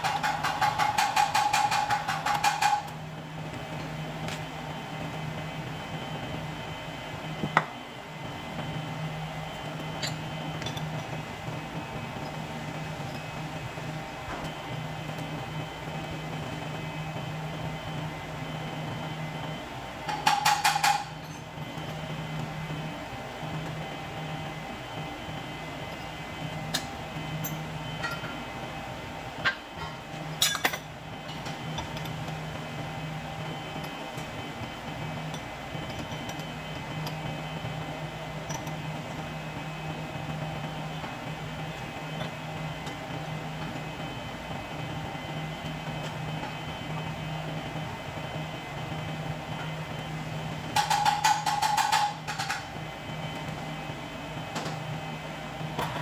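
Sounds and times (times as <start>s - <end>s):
machine humming: 0.0s - 56.0s.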